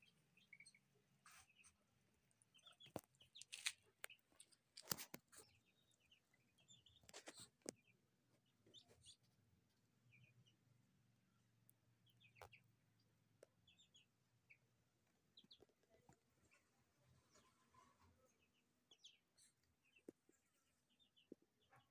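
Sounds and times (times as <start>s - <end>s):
ducklings peeping: 0.0s - 21.9s.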